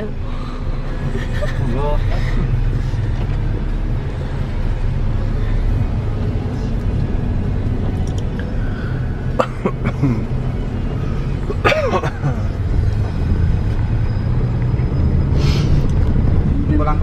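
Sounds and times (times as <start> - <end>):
car engine and tyres rumble: 0.0 - 17.0.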